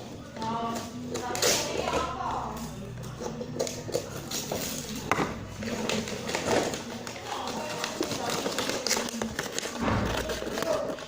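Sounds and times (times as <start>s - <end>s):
voices: 0.0s - 11.0s.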